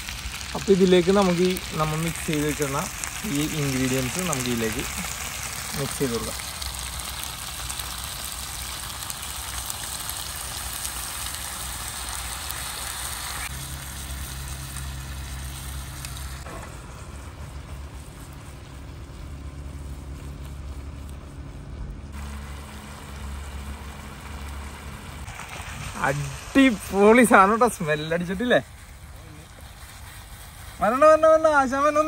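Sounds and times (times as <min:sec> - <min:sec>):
marinade sizzling in a grill pan: 0:00.0 - 0:32.0.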